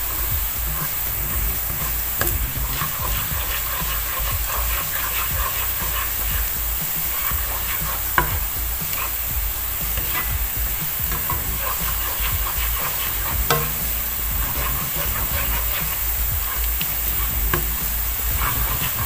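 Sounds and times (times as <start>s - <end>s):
onion sizzling in hot oil: 0.0s - 19.0s
spatula scraping frying pan: 0.0s - 19.0s
spatula knocking on pan: 1.8s - 19.0s.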